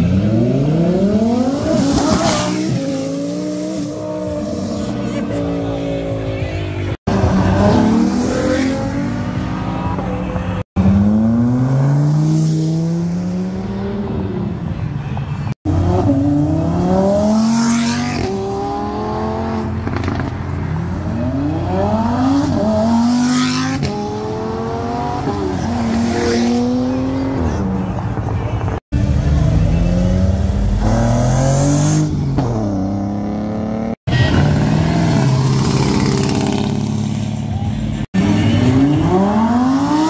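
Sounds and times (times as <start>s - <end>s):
cars accelerating and revving: 0.0s - 40.0s.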